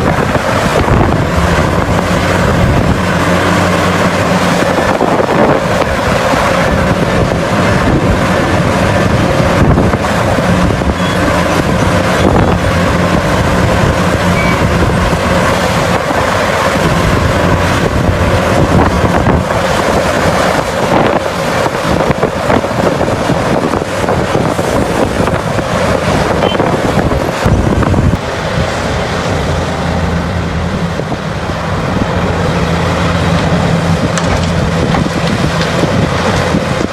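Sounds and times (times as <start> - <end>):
large diesel engine under load: 0.0 - 36.9
wind buffeting microphone: 0.0 - 36.9.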